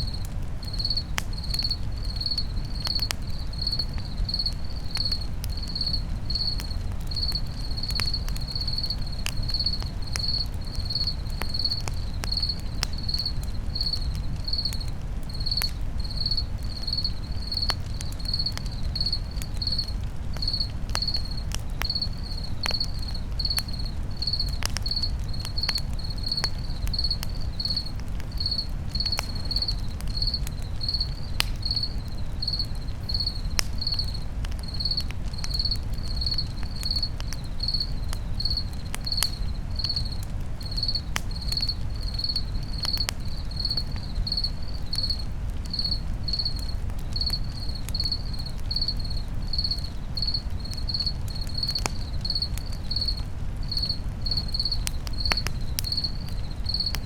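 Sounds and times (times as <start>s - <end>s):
campfire crackling and popping: 0.0s - 57.0s
cricket chirping: 0.0s - 57.0s.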